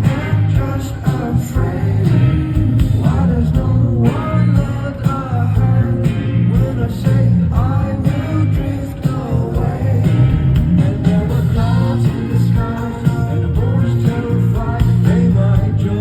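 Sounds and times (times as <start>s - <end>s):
bass line: 0.0s - 16.0s
electric guitar: 0.0s - 16.0s
person singing: 0.0s - 16.0s.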